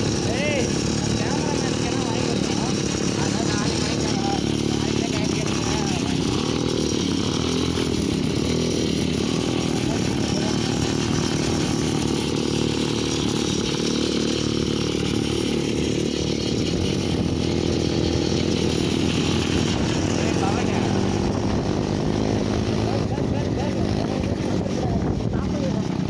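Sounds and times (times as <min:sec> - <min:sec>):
mini bike engine running: 0:00.0 - 0:26.0.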